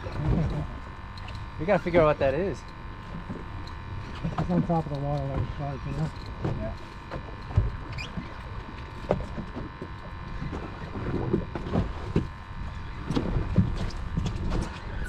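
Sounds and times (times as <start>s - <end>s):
boat engine rumble and hum: 0.0s - 15.0s.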